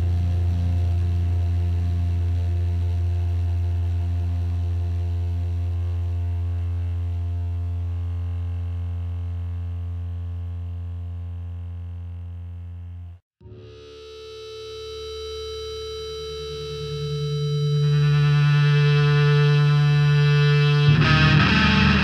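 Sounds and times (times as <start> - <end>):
distorted guitar note ringing: 0.0 - 9.5, 13.4 - 22.0.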